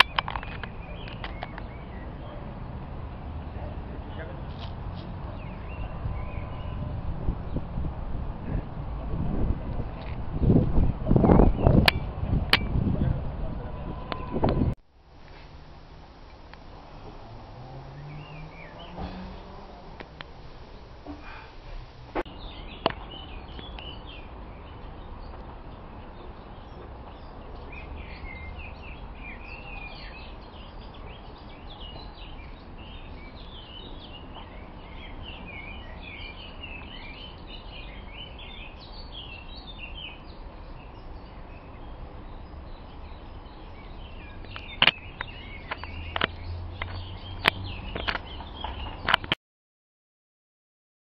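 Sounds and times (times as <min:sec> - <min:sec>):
small birds chirping: 0:00.0 - 0:08.7, 0:10.0 - 0:49.4.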